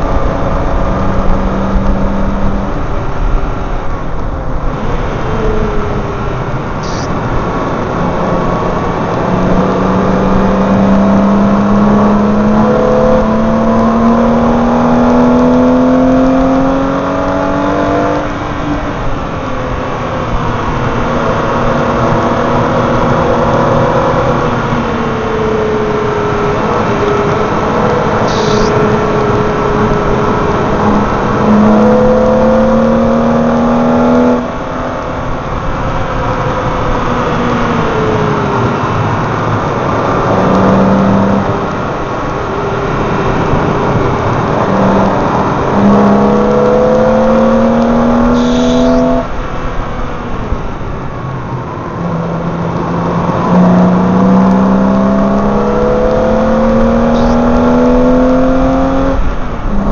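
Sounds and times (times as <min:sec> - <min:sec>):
car engine accelerating: 0:00.0 - 0:59.9
road roar: 0:00.0 - 0:59.9.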